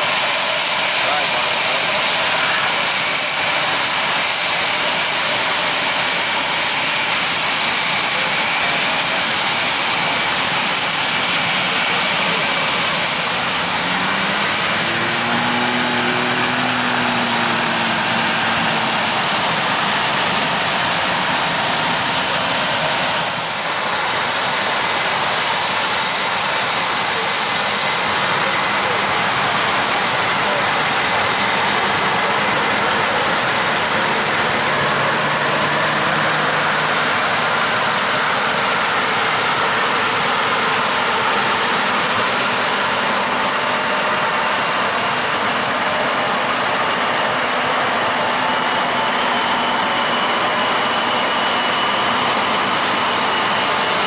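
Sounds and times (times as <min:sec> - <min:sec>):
farm machinery din: 0:00.0 - 0:54.0.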